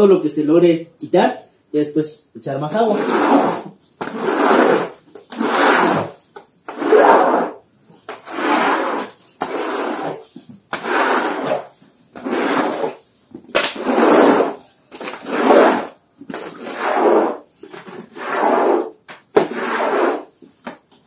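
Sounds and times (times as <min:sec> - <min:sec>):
squeegee scraping wet concrete: 0:02.7 - 0:20.8.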